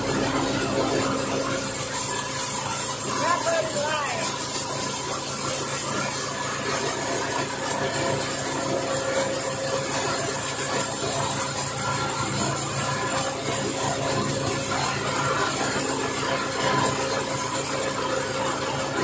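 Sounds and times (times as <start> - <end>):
thresher engine running: 0.0 - 19.0.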